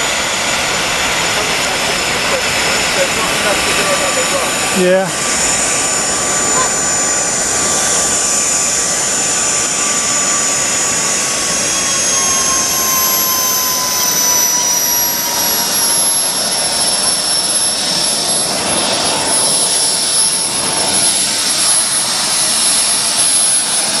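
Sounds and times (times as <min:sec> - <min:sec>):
jet turbine whine: 0:00.0 - 0:24.0
rushing exhaust noise: 0:00.0 - 0:24.0.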